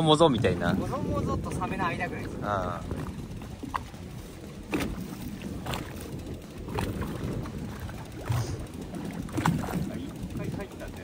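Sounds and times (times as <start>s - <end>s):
low rumble of wind and water: 0.0s - 11.0s.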